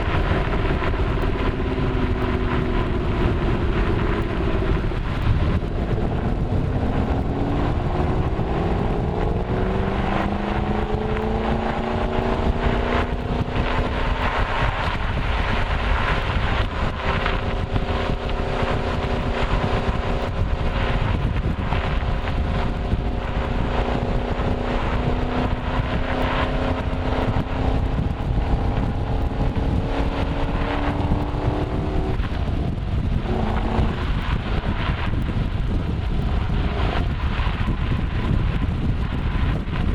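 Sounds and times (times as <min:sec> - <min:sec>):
car engine under load: 0:00.0 - 0:39.9
road noise: 0:00.0 - 0:39.9.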